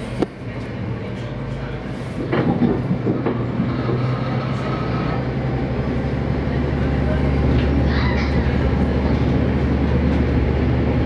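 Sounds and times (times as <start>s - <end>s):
diesel railcar engine hum: 0.0s - 11.0s
train clanks: 0.0s - 11.0s.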